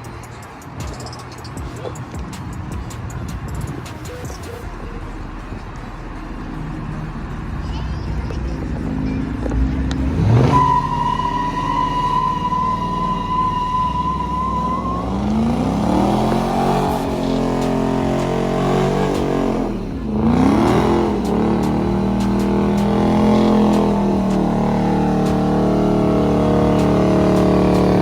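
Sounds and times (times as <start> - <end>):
car engine revving: 4.7 - 28.0.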